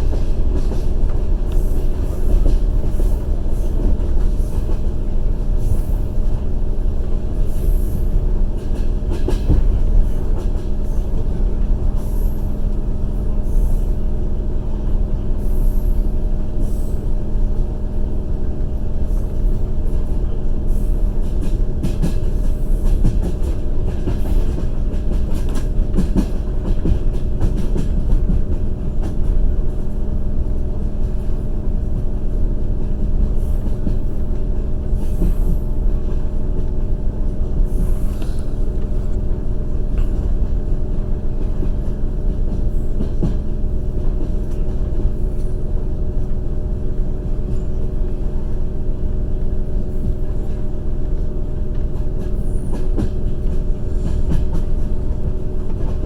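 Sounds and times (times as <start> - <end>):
train rumble and hum: 0.0 - 56.0.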